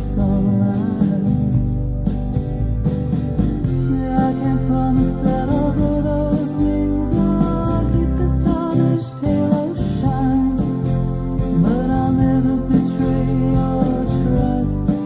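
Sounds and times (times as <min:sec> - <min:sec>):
guitar music with singing: 0:00.0 - 0:15.0.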